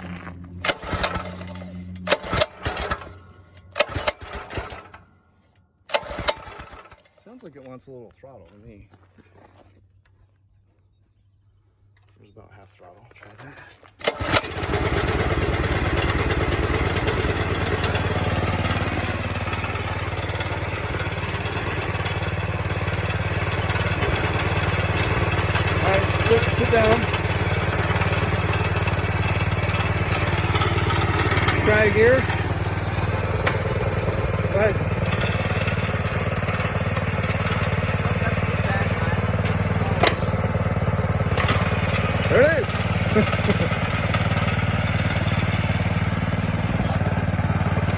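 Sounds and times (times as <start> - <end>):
garden tractor engine running: 0.0 - 7.8, 12.8 - 47.9.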